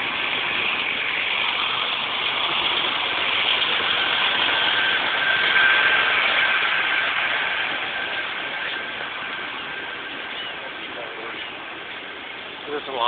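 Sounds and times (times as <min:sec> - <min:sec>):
faint high whine: 0:00.0 - 0:13.0
road traffic hiss: 0:00.0 - 0:13.0.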